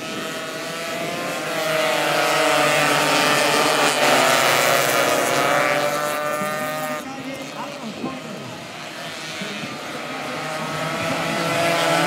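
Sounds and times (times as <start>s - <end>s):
motorcycles passing at high revs: 0.0s - 12.0s.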